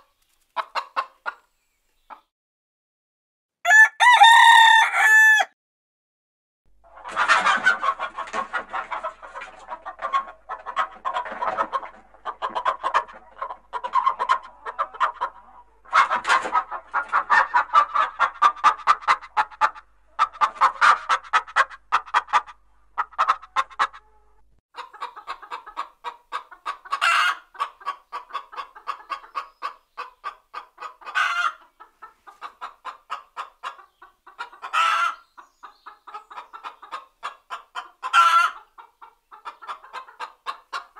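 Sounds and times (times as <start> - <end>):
hens clucking: 0.5 - 2.3, 6.8 - 40.9.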